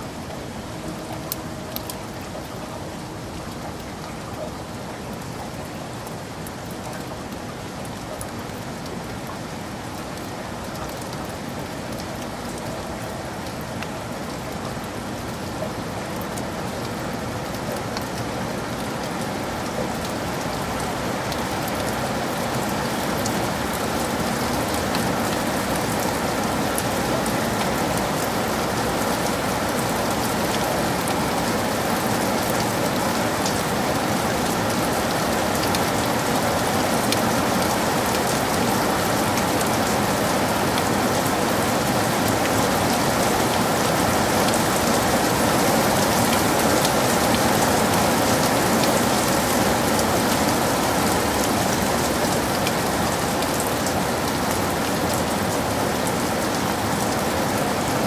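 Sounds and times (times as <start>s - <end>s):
heavy rain in forest: 0.0s - 58.0s
raindrops ticking close by: 0.0s - 58.0s.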